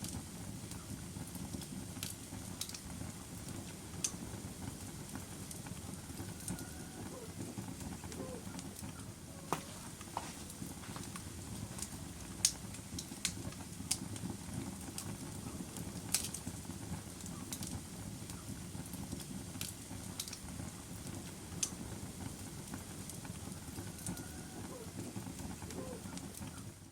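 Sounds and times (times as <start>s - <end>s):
fire crackling and popping: 0.0s - 26.9s
fire flames rumbling: 0.0s - 26.9s.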